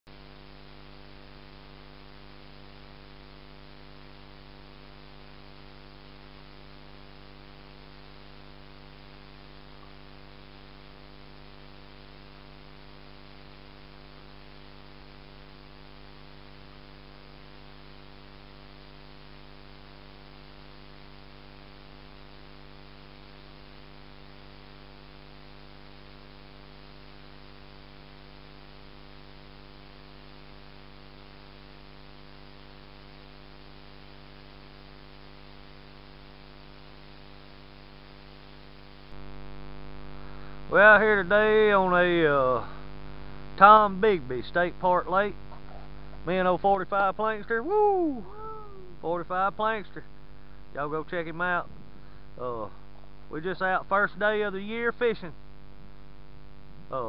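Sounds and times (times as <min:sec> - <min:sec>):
electrical hum with hiss: 0:00.1 - 0:57.0.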